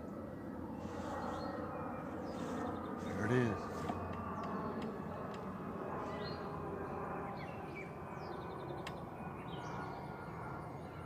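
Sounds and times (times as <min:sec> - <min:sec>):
low outdoor background hum: 0:00.0 - 0:11.0
songbirds chirping: 0:00.2 - 0:11.0.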